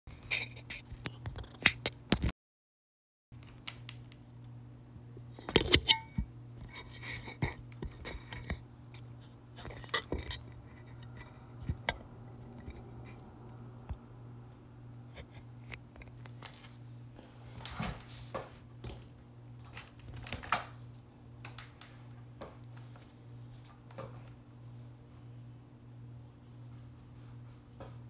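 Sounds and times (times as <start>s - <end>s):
steady low hum: 3.4s - 28.0s.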